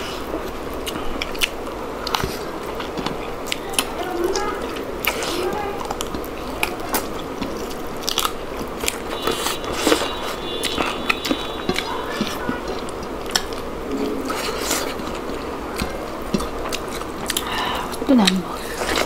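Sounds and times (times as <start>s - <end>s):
people chewing and biting: 0.0s - 19.0s.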